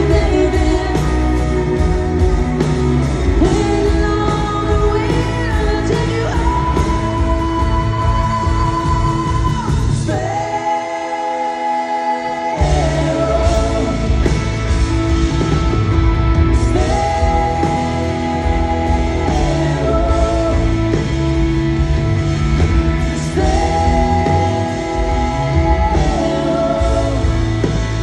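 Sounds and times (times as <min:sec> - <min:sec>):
woman singing: 0:00.0 - 0:02.2, 0:03.2 - 0:14.4, 0:16.5 - 0:21.2, 0:22.9 - 0:28.0
bass: 0:00.0 - 0:28.0
drums: 0:00.0 - 0:28.0
electric guitar: 0:00.0 - 0:28.0.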